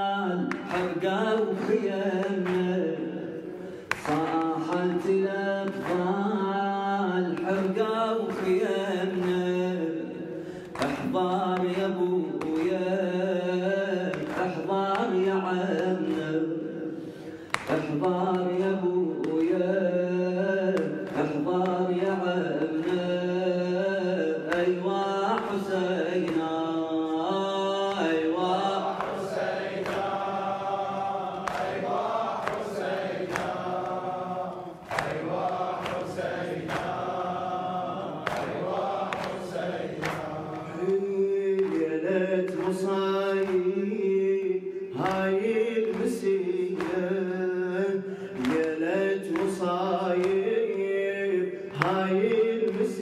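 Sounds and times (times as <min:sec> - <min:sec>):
men chanting in chorus: 0:00.0 - 0:53.0.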